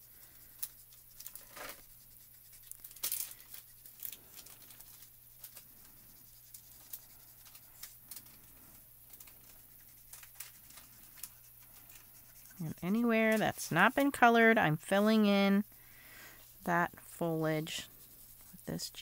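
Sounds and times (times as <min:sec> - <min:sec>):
marker nib scratching on card: 0:00.0 - 0:08.5, 0:09.2 - 0:15.7, 0:16.5 - 0:19.0.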